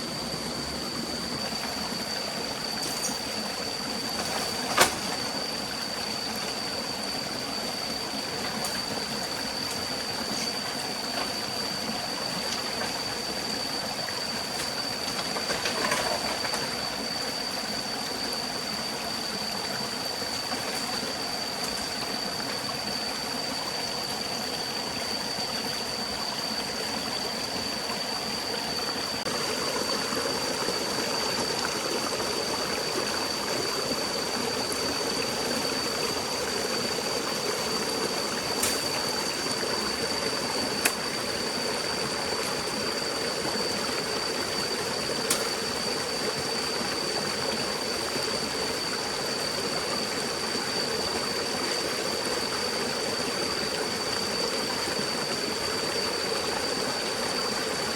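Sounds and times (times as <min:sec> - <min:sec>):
stream flowing: 0:00.0 - 0:57.9
thin steady high tone: 0:00.0 - 0:57.9.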